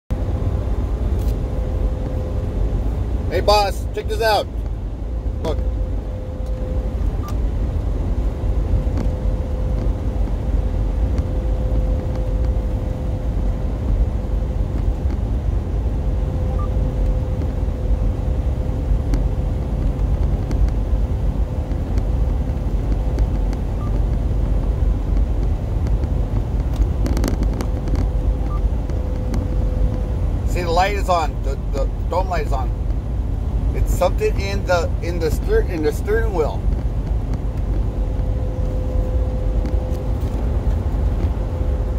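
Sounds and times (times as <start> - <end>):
faint steady whine: 0.1 - 41.9.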